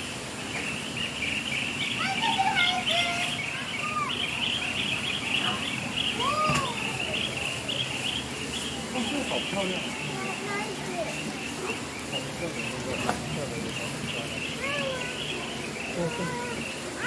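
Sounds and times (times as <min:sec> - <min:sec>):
birds chirping chatter: 0:00.0 - 0:17.0
whistled bird calls: 0:00.4 - 0:17.0.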